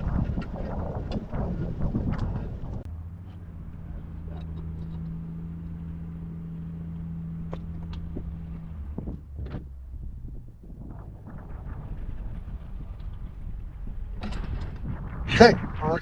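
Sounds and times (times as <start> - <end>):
low motor hum: 0.3 - 16.0.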